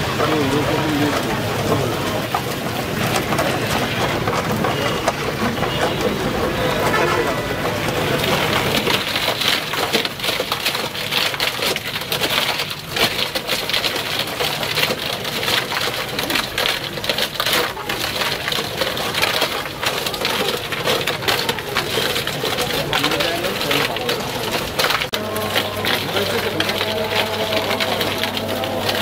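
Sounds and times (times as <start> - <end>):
ice cream crackling on roller: 0.0 - 29.0.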